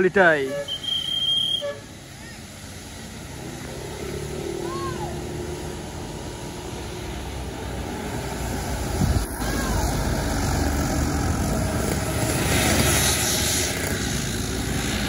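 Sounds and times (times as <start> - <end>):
large vehicle engine and tyres: 0.0 - 15.0.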